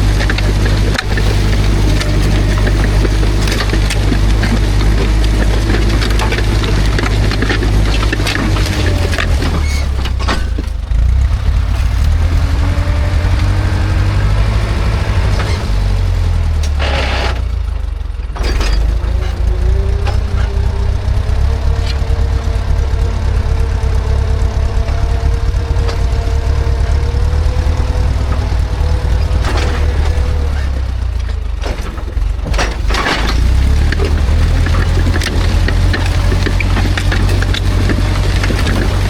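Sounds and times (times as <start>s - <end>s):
knocks and clanks: 0.0s - 39.0s
tractor diesel engine rumbling: 0.0s - 39.0s.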